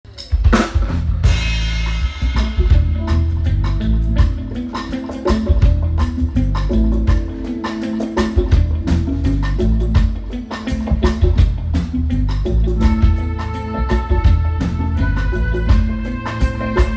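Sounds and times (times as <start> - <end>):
live band music: 0.1 - 16.9.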